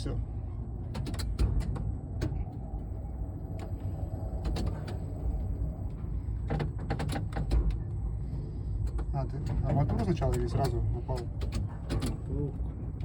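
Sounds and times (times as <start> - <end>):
strong wind buffeting crane cab: 0.0 - 13.0.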